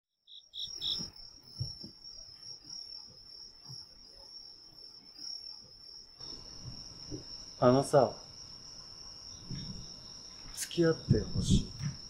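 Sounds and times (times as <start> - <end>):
crickets chirring: 0.2 - 12.0.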